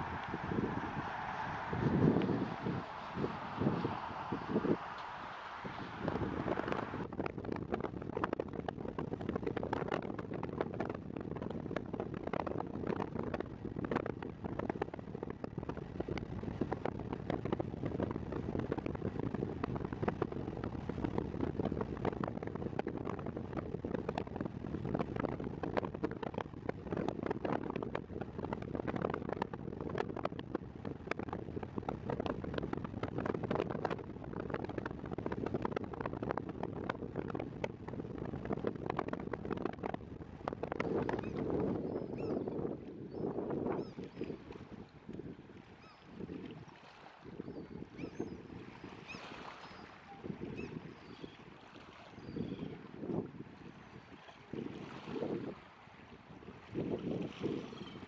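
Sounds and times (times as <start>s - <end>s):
highway road and wind noise: 0.0s - 58.0s.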